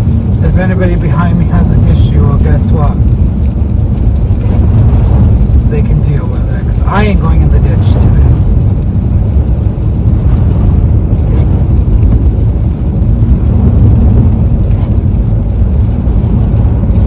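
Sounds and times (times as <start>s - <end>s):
car engine: 0.0s - 17.0s
tyre and road noise: 0.0s - 17.0s.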